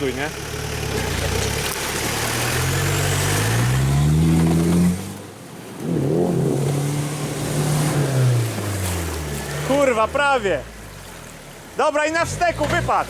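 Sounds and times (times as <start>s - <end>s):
suv engine revving: 0.0s - 13.0s.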